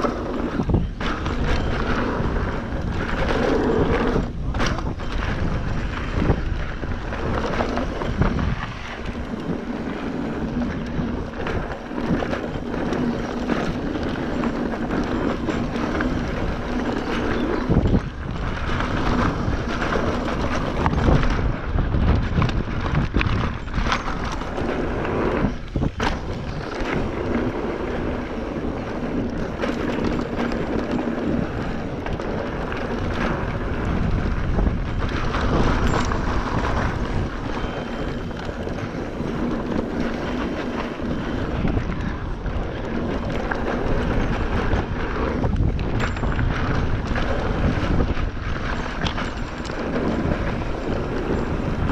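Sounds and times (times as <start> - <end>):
bike parts rattling: 0.0 - 51.9
tyres rumbling on dirt: 0.0 - 51.9
wind buffeting microphone: 0.0 - 51.9.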